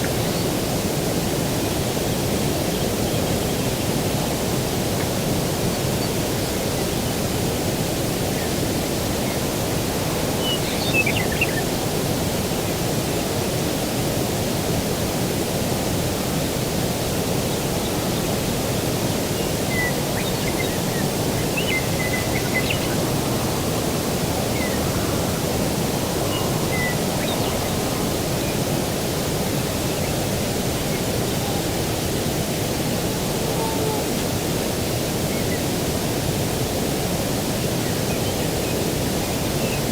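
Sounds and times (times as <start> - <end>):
distant ocean surf: 3.7 - 39.9.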